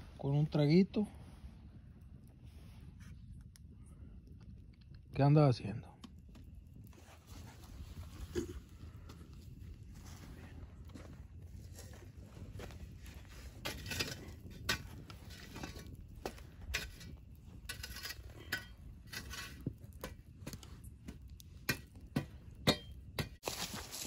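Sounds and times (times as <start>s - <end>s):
campfire crackling: 0.0s - 24.0s
fire popping and snapping: 0.0s - 24.0s
low rumble of fire: 0.0s - 24.0s.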